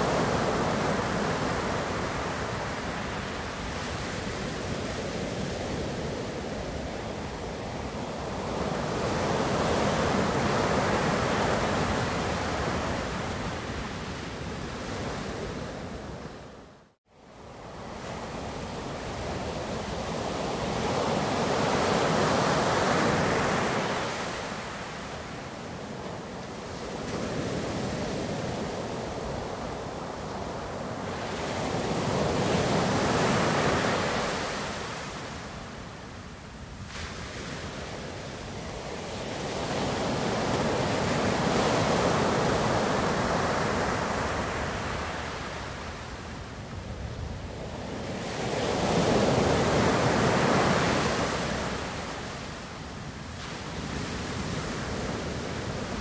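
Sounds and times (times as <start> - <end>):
ocean waves surging onto shore: 0.0 - 16.6, 17.3 - 56.0.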